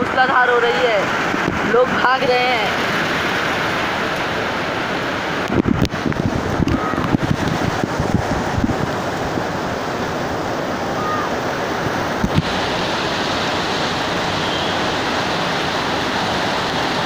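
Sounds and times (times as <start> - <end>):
gusting wind: 0.0 - 17.0
heavy rain pouring: 0.0 - 17.0.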